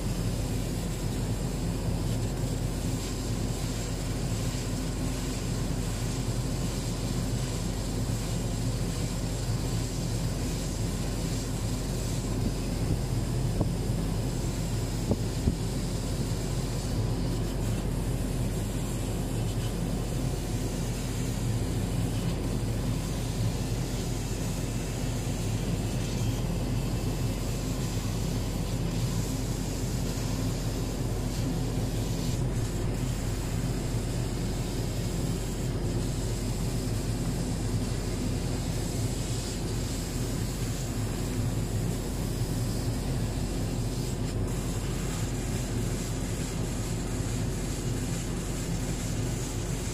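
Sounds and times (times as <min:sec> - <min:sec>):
laser cutting machine droning: 0:00.0 - 0:49.9.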